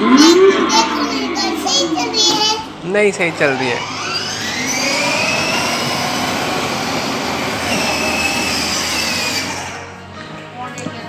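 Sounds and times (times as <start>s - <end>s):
toy car motor whine: 1.0s - 10.0s.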